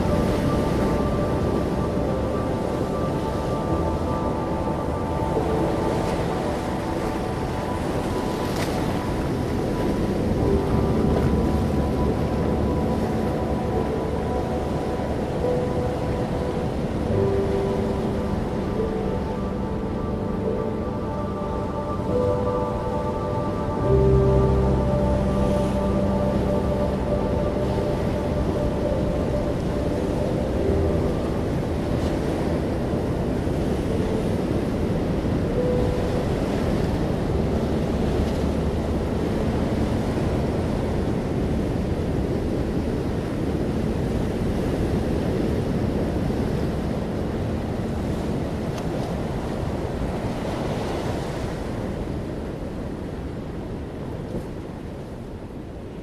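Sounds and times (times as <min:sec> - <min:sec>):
ocean surf washing ashore: 0:00.0 - 0:56.0
wind: 0:00.0 - 0:56.0.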